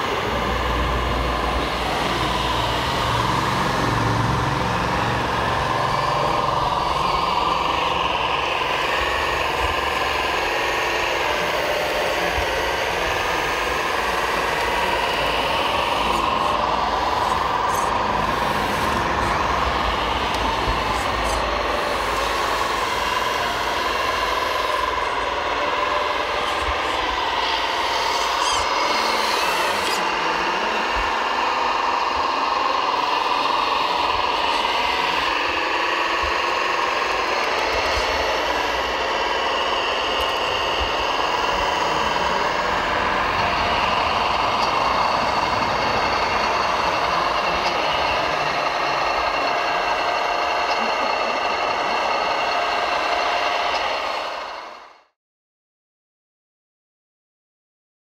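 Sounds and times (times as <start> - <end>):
whine of small motors and hydraulics: 0.0 - 55.1.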